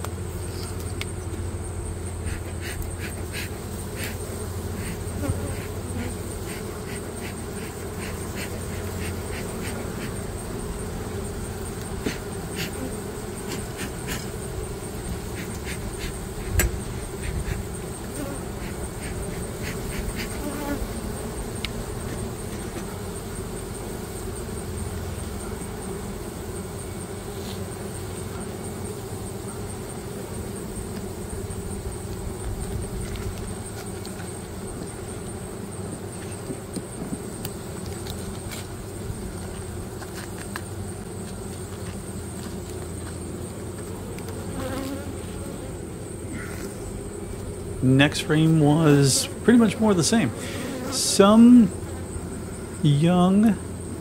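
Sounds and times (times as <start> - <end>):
honey bees buzzing: 0.0 - 54.0.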